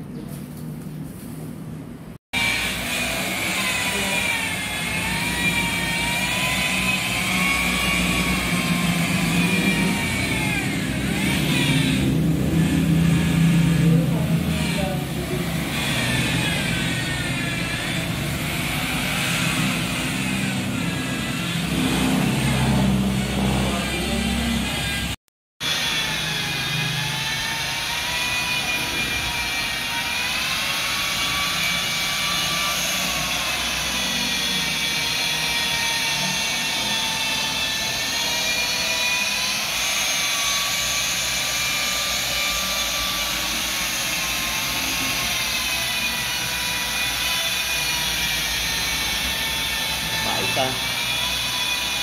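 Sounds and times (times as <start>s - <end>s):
motor running with high whine: 2.4s - 52.0s.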